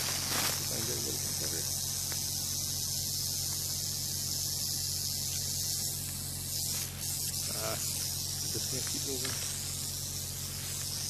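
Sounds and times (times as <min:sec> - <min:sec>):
rattlesnake rattling: 0:00.0 - 0:11.0.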